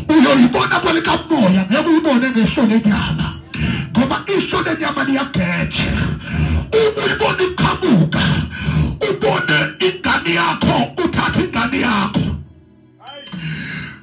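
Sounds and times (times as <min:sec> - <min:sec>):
man preaching over loudspeaker: 0:00.0 - 0:12.4.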